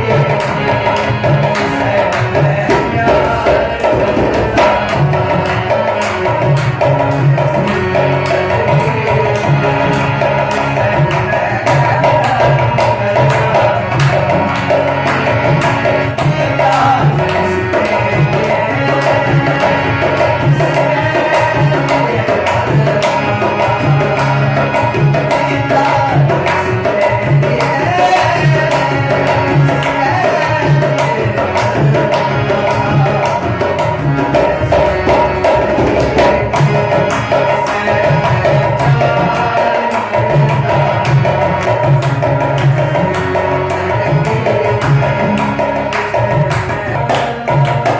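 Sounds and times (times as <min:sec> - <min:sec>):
hand drum fast rhythm: 0:00.0 - 0:47.9.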